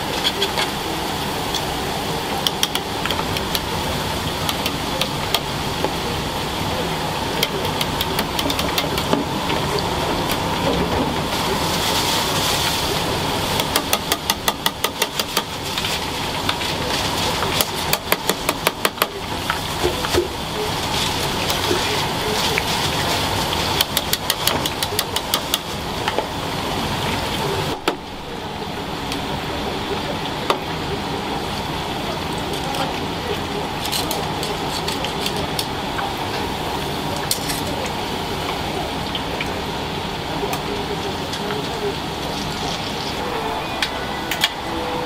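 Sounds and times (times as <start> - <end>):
kitchen noise: 0.0 - 28.4, 29.0 - 45.0.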